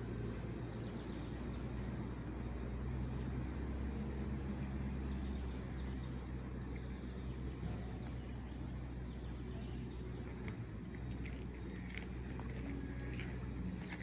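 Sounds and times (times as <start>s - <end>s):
distant road traffic hum: 0.0s - 14.0s.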